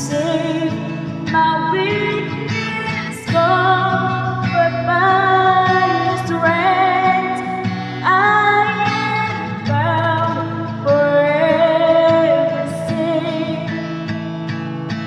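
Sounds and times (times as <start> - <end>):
woman singing: 0.0 - 14.2.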